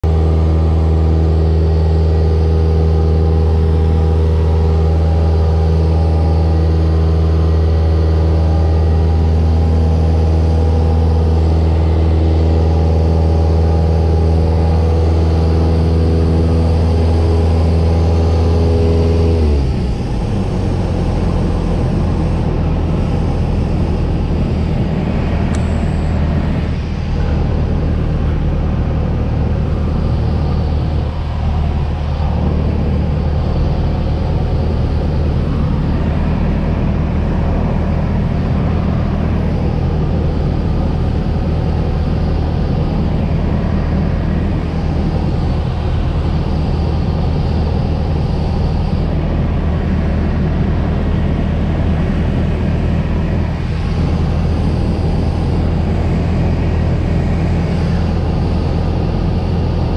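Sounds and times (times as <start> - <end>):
airplane engine and propeller drone: 0.0 - 59.9.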